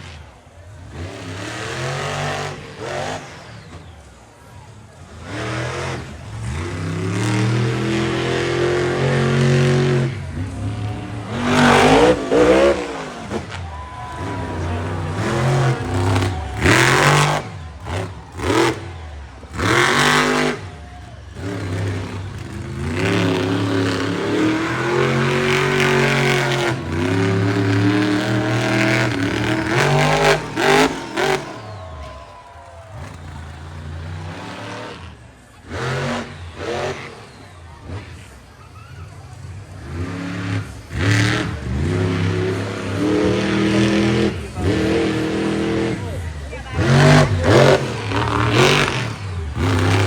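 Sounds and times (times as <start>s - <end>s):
truck engine revving hard: 0.0s - 50.0s.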